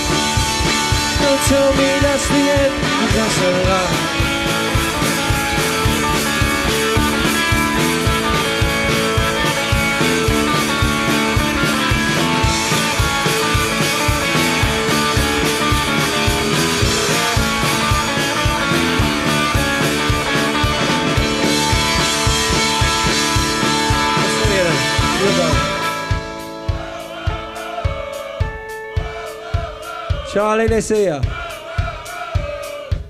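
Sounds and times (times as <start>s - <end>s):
rock band playing instrumental: 0.0s - 33.0s
steady drum beat: 0.0s - 33.0s.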